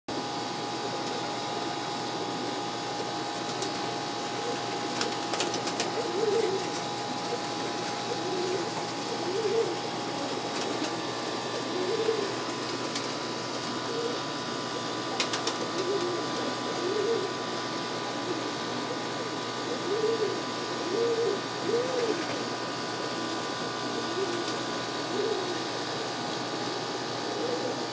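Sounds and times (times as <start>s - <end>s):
pigeons cooing: 0.1s - 27.9s.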